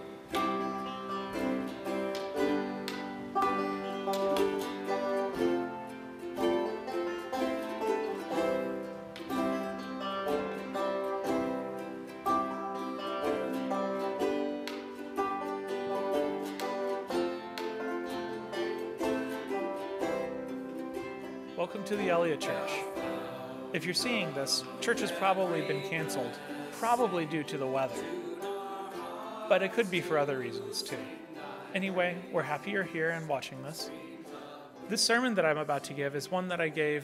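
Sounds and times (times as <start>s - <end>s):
ukulele ensemble playing: 0.0s - 37.0s.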